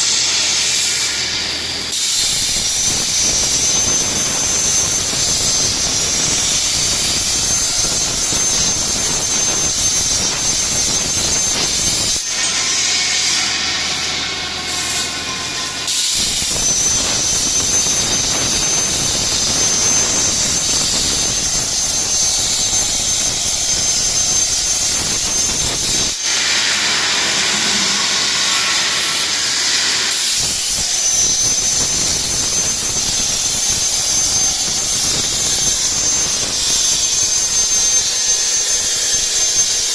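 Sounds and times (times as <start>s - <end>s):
plasma torch cutting steel: 0.0s - 39.9s.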